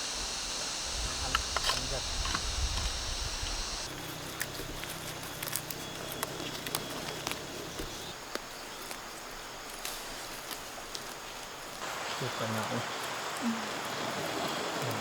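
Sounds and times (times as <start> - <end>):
high insect buzz: 0.0 - 15.0.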